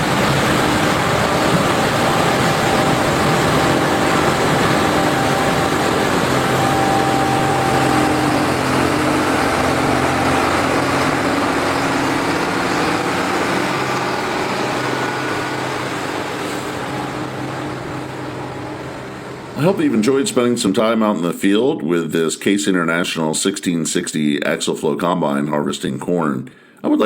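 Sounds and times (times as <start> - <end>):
combine engine tone: 0.0 - 27.0.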